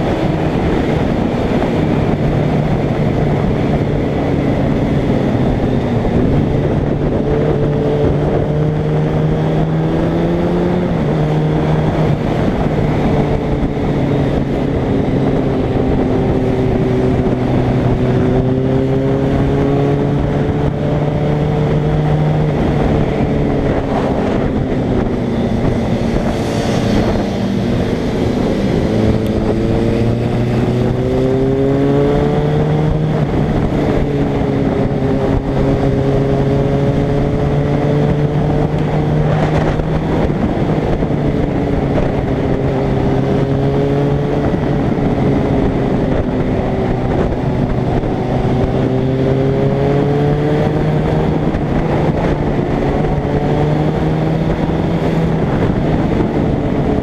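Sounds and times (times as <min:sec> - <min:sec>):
motorcycle engine revving and shifting: 0:00.0 - 0:57.0.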